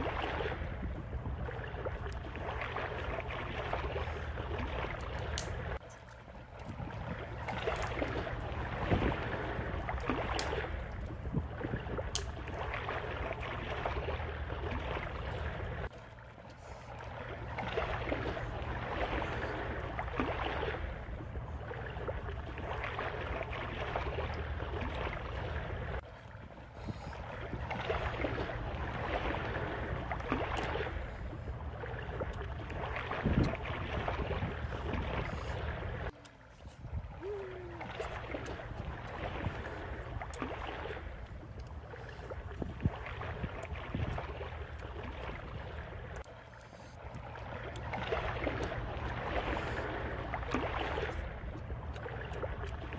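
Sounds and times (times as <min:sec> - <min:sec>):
water noise: 0:00.0 - 0:52.9
wind: 0:00.0 - 0:52.9.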